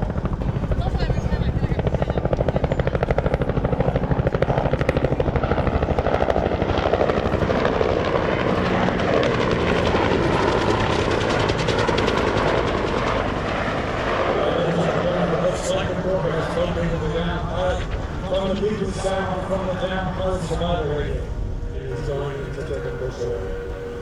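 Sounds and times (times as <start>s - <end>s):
helicopter rotor thumping: 0.0s - 19.1s, 21.9s - 24.0s
turbine whine: 0.0s - 24.0s.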